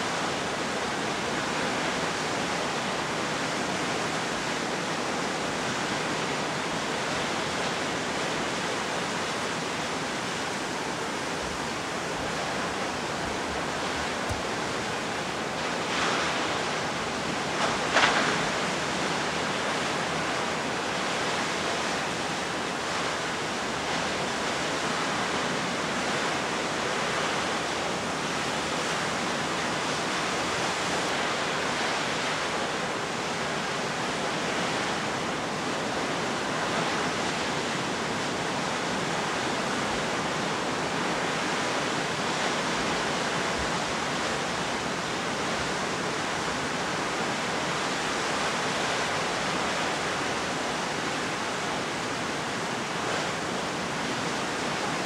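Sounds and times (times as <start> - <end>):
rough sea roaring: 0.0 - 55.0.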